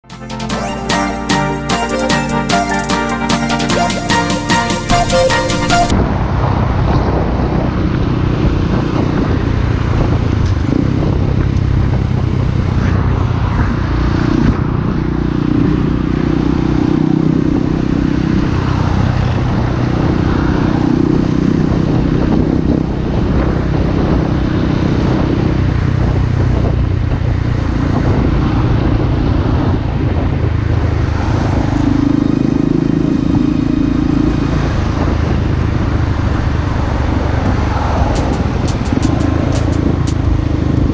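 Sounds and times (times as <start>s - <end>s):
wind rush and road noise: 5.9s - 40.9s.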